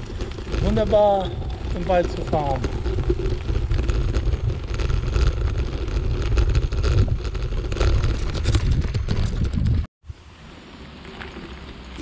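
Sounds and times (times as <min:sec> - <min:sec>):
bicycle rattling: 0:00.0 - 0:09.9, 0:10.8 - 0:12.0
wind buffeting microphone: 0:00.0 - 0:09.9
bicycle tyres crunching on gravel: 0:00.0 - 0:12.0.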